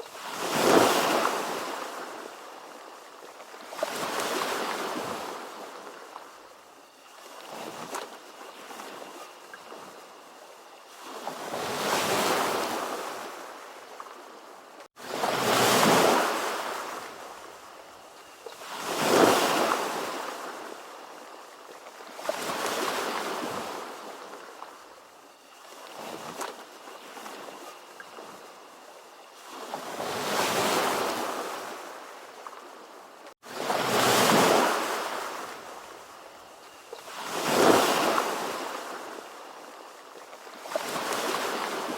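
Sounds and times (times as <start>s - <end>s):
ocean waves breaking on shore: 0.0s - 17.7s, 18.3s - 24.9s, 25.6s - 36.2s, 36.8s - 41.9s.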